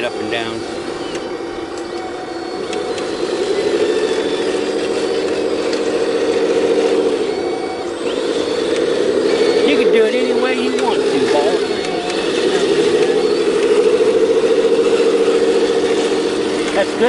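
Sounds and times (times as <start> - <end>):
heavy diesel engine revving: 0.0 - 17.0.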